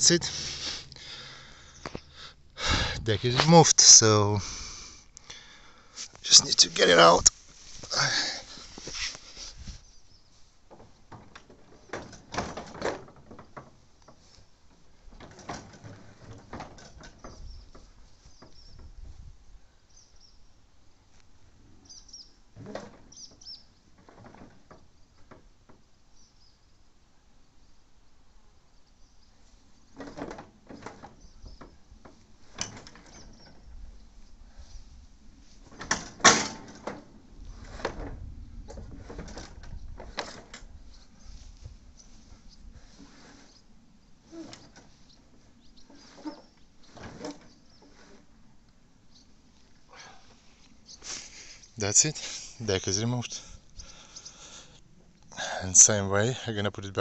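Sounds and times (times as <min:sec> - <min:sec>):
faint birds chirping: 0:00.0 - 0:12.3, 0:13.2 - 0:35.8, 0:36.9 - 0:57.0.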